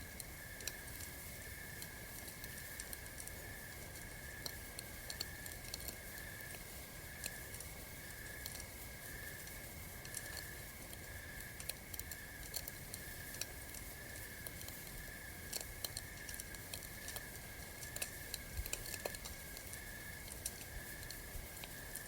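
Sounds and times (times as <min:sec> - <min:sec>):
campfire crackling and popping: 0:00.1 - 0:22.0.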